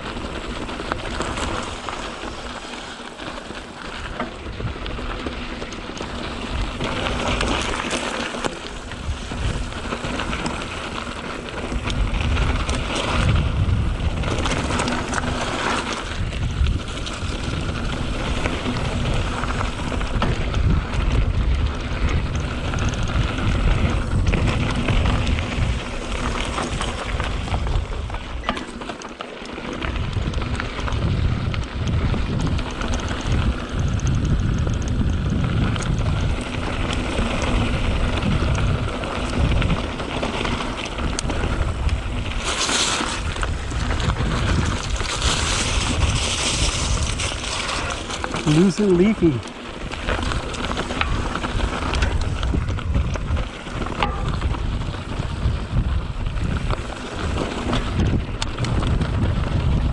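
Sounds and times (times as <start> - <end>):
wind buffeting microphone: 0.0 - 28.5, 29.8 - 59.9
bike rattling: 0.0 - 59.9
bike tires rolling on dirt: 0.0 - 59.9.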